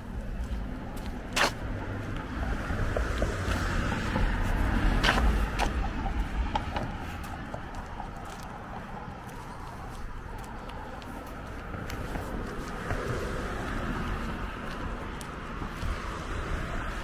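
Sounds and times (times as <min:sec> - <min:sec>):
car passing: 0:00.0 - 0:17.0.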